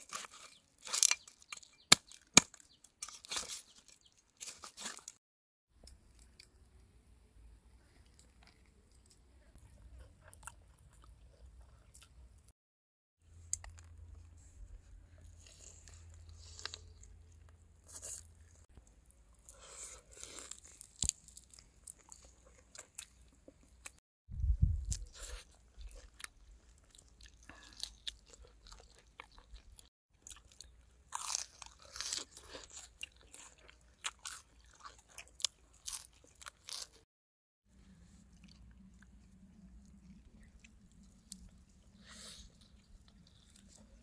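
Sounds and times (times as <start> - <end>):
person chewing crunchy food: 0.0 - 5.2, 8.0 - 12.3, 13.3 - 24.0, 24.8 - 37.1, 37.8 - 44.0.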